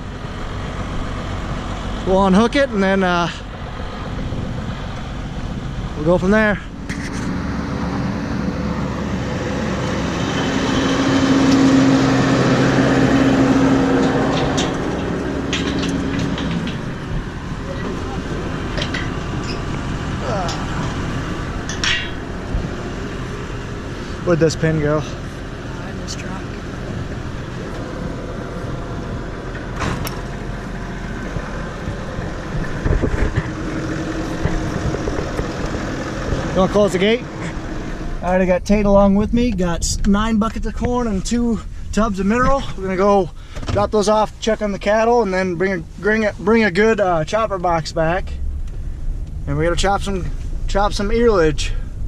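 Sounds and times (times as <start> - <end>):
vehicle engine running: 0.0 - 52.0.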